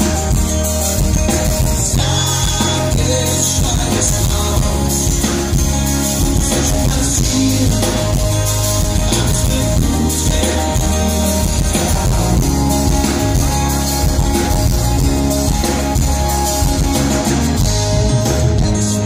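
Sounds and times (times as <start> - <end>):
live band through stage speakers: 0.0 - 19.0.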